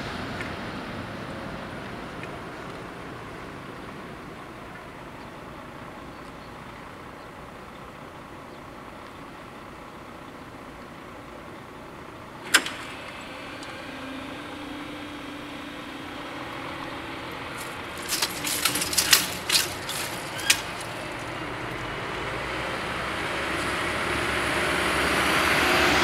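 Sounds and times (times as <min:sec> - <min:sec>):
barrier drives humming: 0:00.0 - 0:26.0
cars passing: 0:00.0 - 0:26.0.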